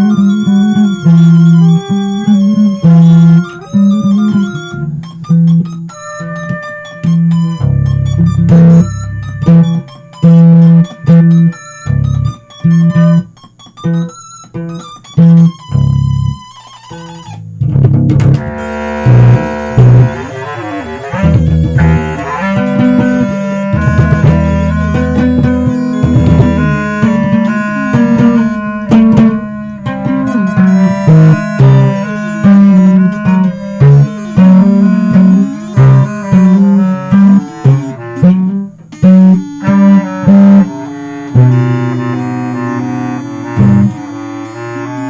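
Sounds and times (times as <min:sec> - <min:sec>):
electric bass notes: 0:00.0 - 0:45.0
plucked guitar notes: 0:00.0 - 0:45.0.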